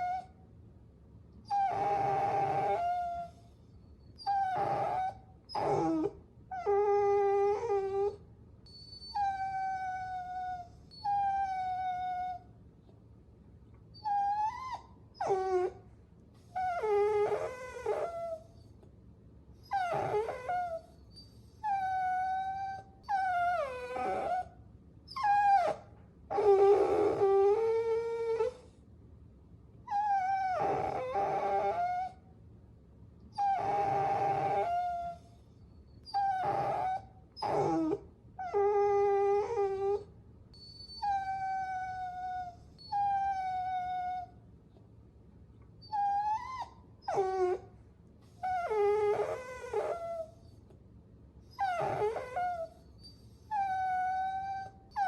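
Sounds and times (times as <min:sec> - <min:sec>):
puppies whining: 0:00.0 - 0:00.3, 0:01.5 - 0:12.4, 0:13.9 - 0:15.8, 0:16.4 - 0:18.7, 0:19.6 - 0:24.5, 0:25.1 - 0:28.7, 0:29.9 - 0:32.2, 0:33.3 - 0:44.4, 0:45.8 - 0:47.7, 0:48.3 - 0:50.6, 0:51.5 - 0:55.0.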